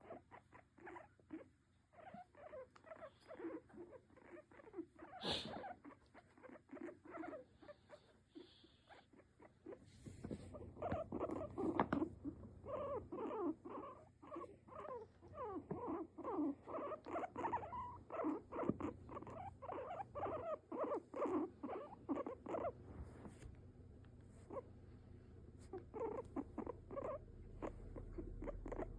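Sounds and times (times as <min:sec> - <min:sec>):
guinea pig squeaking: 0:00.0 - 0:22.8, 0:24.4 - 0:24.7, 0:25.6 - 0:28.9.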